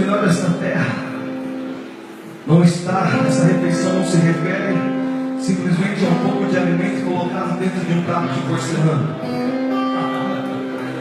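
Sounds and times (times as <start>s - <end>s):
worship music with guitar: 0.0s - 11.0s.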